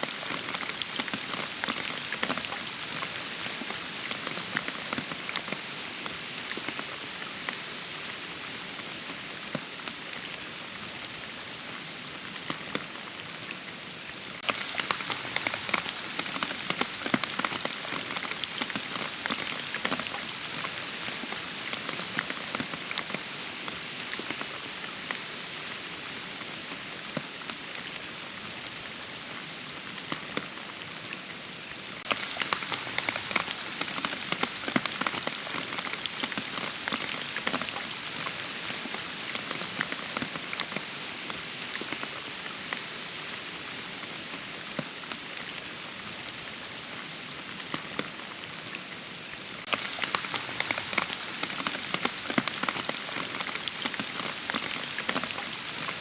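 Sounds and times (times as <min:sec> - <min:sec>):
rain with drops striking: 0:00.0 - 0:56.0.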